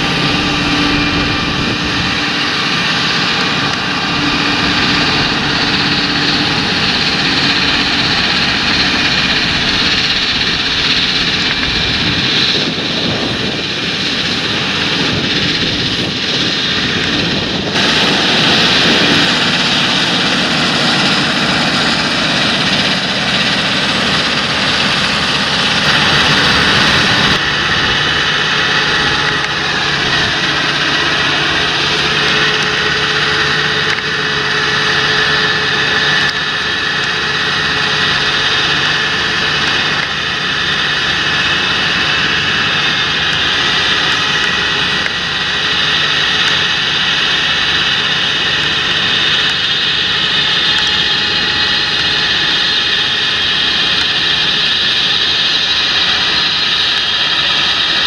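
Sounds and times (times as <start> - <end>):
loud hissing whine: 0.0 - 58.0
tractor diesel engine running: 0.0 - 58.0.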